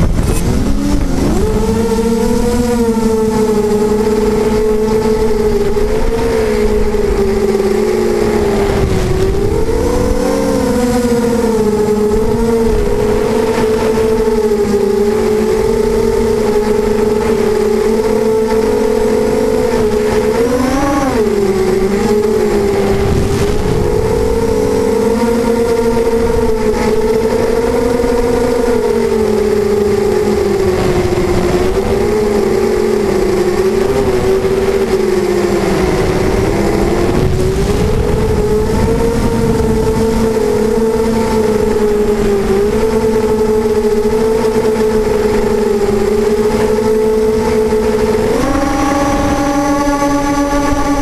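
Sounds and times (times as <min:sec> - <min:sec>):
quadcopter motors whining: 0:00.0 - 0:51.0
rushing wind: 0:00.0 - 0:51.0.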